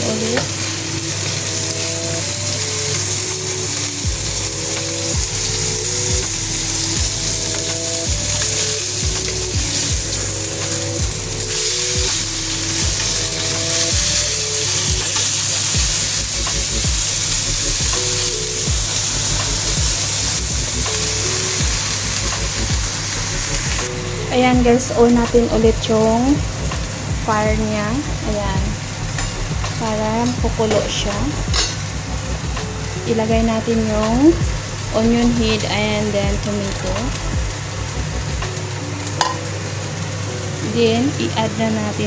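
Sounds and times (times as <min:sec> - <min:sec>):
fish frying in oil sizzling: 0:00.0 - 0:42.0.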